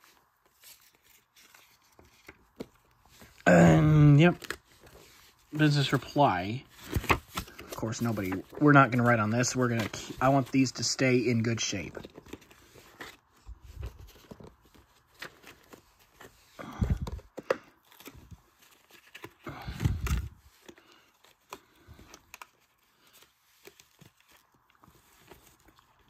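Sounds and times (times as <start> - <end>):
paper and cardboard rustling: 0.0 - 26.0.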